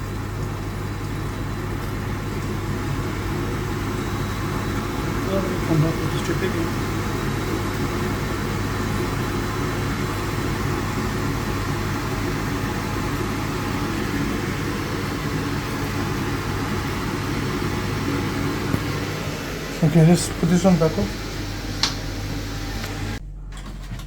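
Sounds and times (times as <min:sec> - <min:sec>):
machinery humming and rushing: 0:01.2 - 0:23.2.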